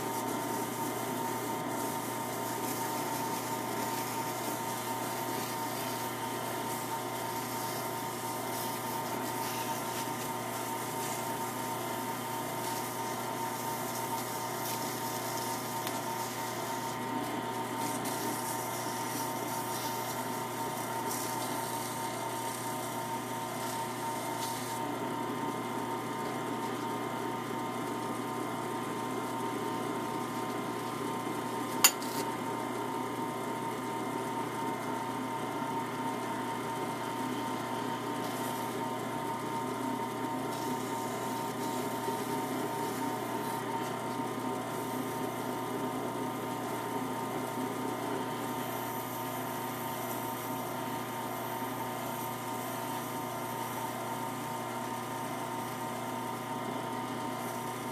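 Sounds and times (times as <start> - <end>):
lathe motor humming: 0.0 - 57.9.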